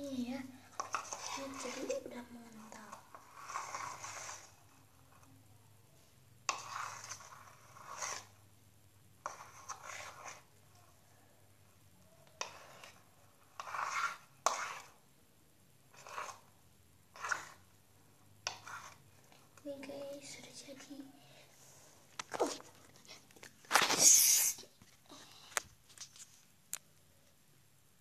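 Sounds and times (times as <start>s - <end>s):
slime stirred and scraped in bowl: 0.0s - 15.2s, 15.8s - 26.8s.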